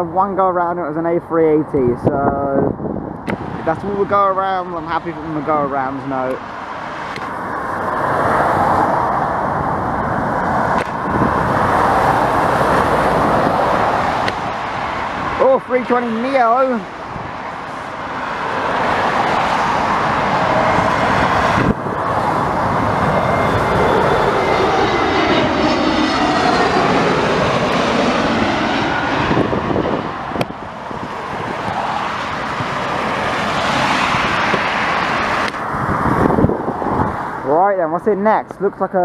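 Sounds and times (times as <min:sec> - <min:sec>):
jet airliner roaring overhead: 0:00.0 - 0:39.0.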